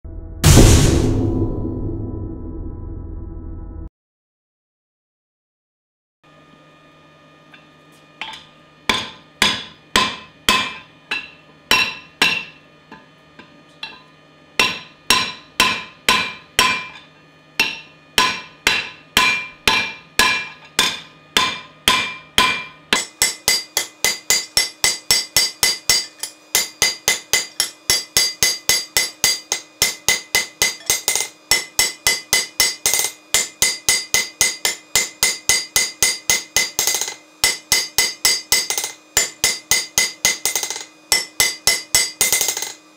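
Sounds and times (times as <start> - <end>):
hammer striking steel on anvil: 7.5 - 42.9.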